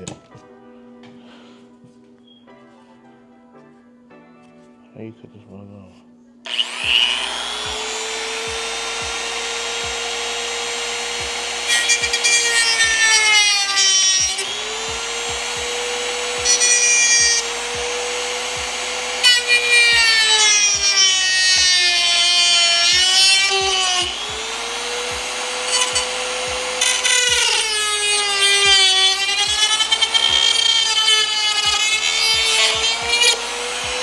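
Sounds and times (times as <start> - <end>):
bit grinding into material: 6.5 - 34.0
rotary tool whining: 6.5 - 34.0.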